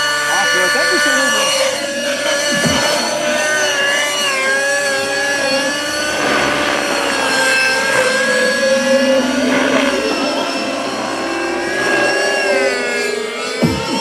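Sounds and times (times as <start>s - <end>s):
model helicopter whine: 0.0s - 14.0s.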